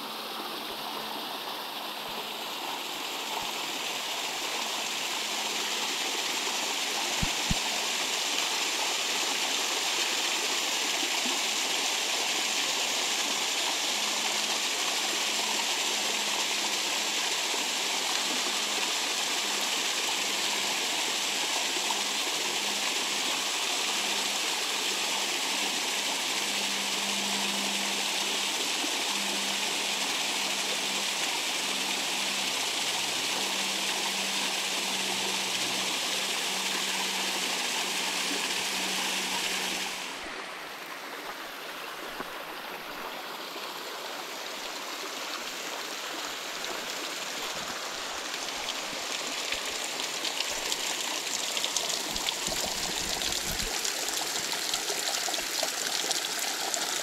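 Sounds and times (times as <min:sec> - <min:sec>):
flowing creek water: 0:00.0 - 0:57.0.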